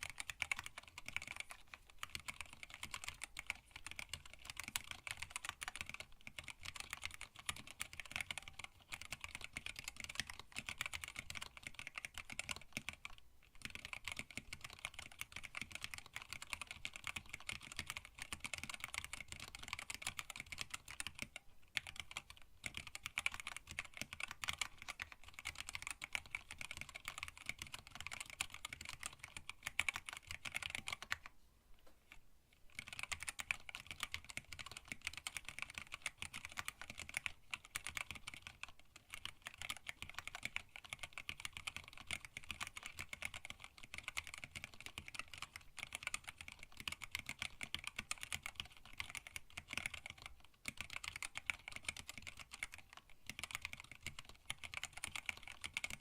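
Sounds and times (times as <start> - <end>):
mechanical keyboard typing: 0.0 - 31.3, 32.1 - 56.0.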